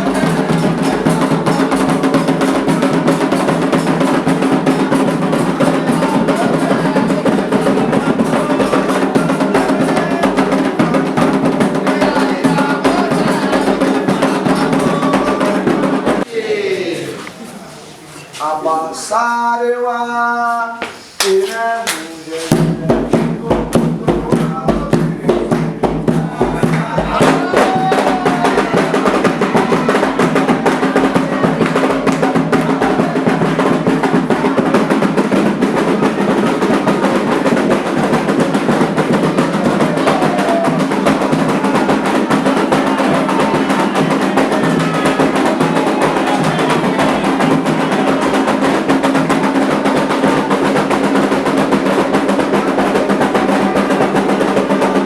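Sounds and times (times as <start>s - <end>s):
hand drums playing fast rhythm: 0.0s - 16.3s, 22.5s - 55.0s
faint voices: 0.0s - 55.0s.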